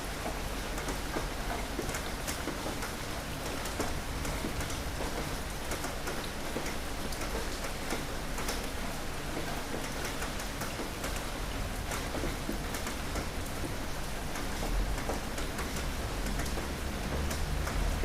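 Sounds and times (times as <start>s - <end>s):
heavy rain pattering: 0.2s - 18.0s.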